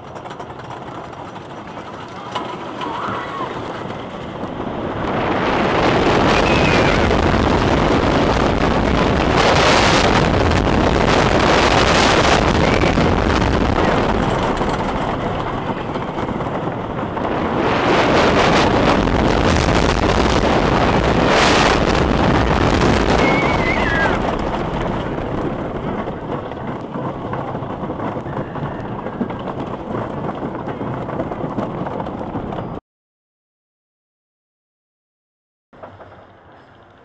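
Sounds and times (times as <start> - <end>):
roller coaster wheels rumbling: 0.0 - 32.8, 35.8 - 37.0
wind rushing on microphone: 0.0 - 32.8.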